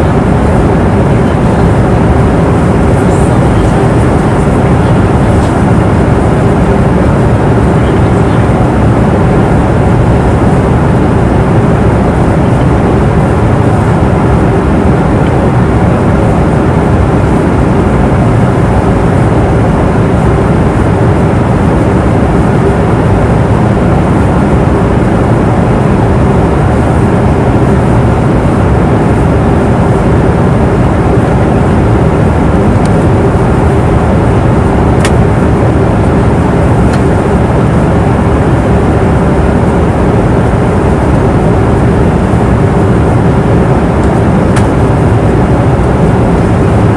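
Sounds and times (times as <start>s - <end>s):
airliner cabin engine rush: 0.0s - 46.9s
faint steady hum: 0.0s - 46.9s.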